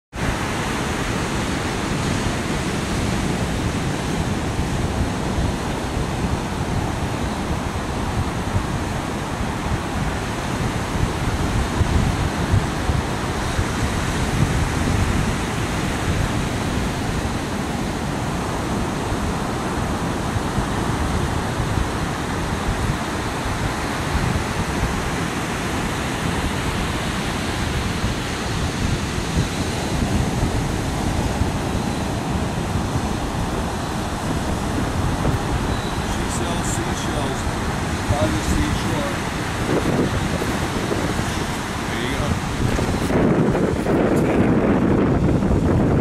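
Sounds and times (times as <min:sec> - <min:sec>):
surf breaking on beach: 0:00.1 - 0:46.0
wind buffeting microphone: 0:00.1 - 0:46.0.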